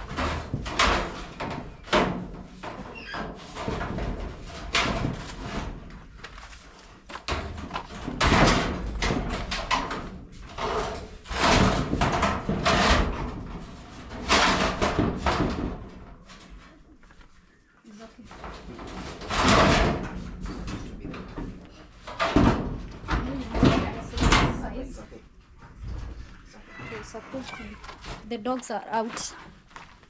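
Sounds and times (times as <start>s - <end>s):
knocking and banging: 0.0s - 17.1s, 18.2s - 27.0s.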